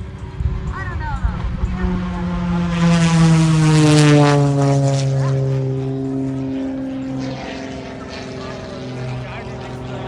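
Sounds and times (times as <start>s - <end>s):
propeller airplane flying past: 0.0s - 10.0s.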